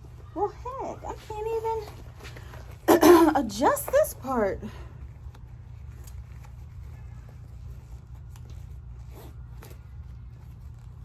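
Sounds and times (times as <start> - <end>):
nylon scraping and rustling: 0.0 - 11.0
steady low hum: 0.0 - 11.0.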